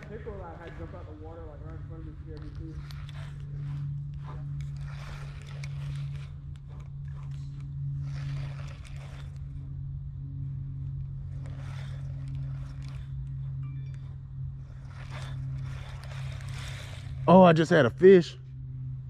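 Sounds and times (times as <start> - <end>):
fishing reel cranking: 0.0 - 0.9, 1.6 - 19.0
scratchy rustling: 0.0 - 19.0
steady low hum: 0.0 - 19.0.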